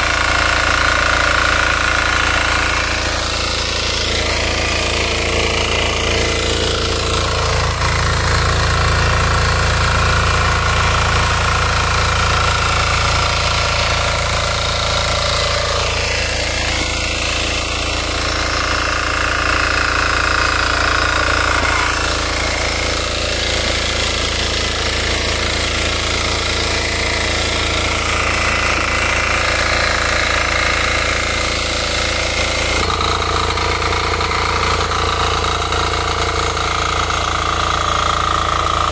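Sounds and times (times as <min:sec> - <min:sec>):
power tiller diesel engine: 0:00.0 - 0:38.9
tines churning soil: 0:00.0 - 0:38.9.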